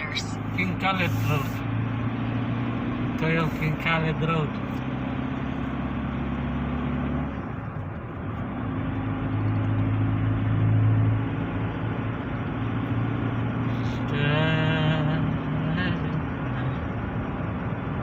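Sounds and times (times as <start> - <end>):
car engine hum: 0.0 - 18.0
tyre road noise: 0.0 - 18.0.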